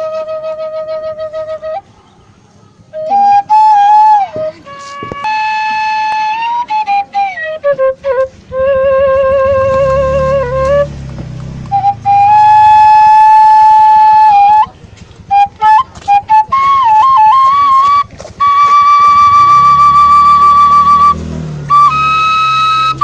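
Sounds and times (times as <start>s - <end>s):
bamboo flute melody: 0.0s - 1.9s, 2.9s - 23.0s.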